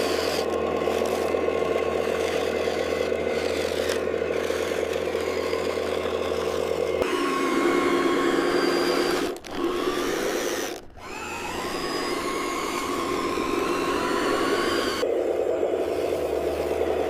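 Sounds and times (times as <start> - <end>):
electric motors whining: 0.0 - 17.0
low engine-like hum: 0.0 - 17.0.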